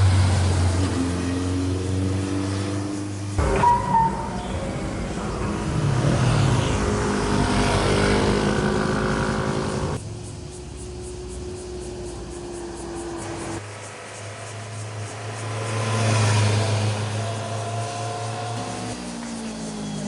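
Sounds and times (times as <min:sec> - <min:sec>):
motorcycle engines revving: 0:00.0 - 0:10.0, 0:11.0 - 0:20.0.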